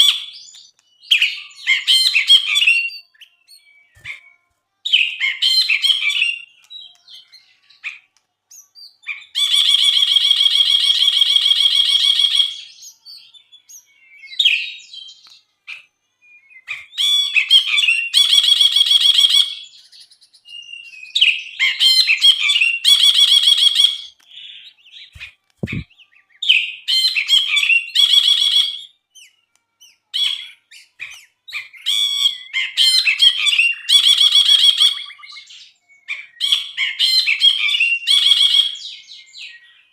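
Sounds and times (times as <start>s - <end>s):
bird singing chirps and rattle: 0.0s - 39.9s.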